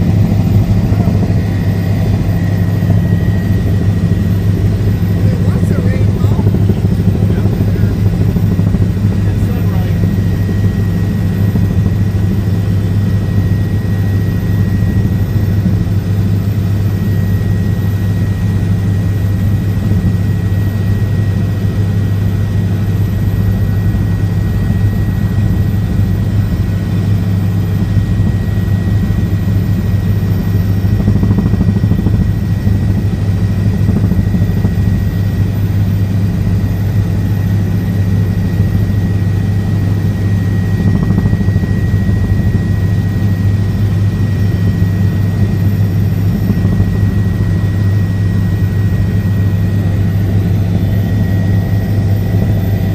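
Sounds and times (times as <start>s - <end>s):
helicopter rotor drone: 0.0s - 52.9s
high whine: 0.0s - 52.9s.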